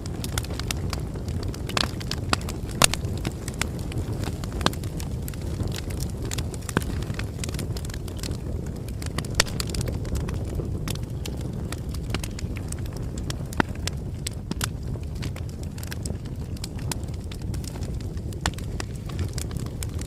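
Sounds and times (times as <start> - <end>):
burning wood crackling and popping: 0.0 - 20.0
low rush of flames: 0.0 - 20.0.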